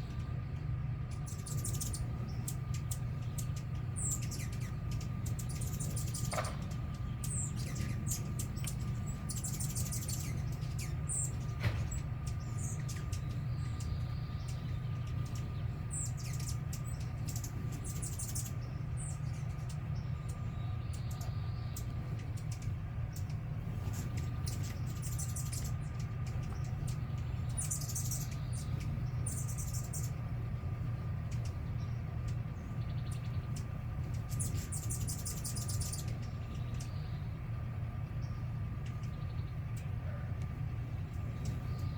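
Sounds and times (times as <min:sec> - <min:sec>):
small birds chirping trills: 0:00.0 - 0:41.9
steady low hum: 0:00.0 - 0:41.9.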